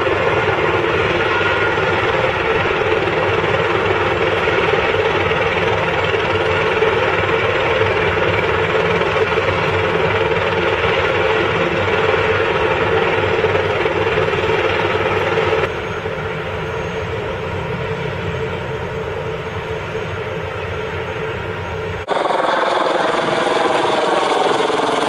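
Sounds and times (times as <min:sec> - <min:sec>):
helicopter turbine and rotor: 0:00.0 - 0:25.0.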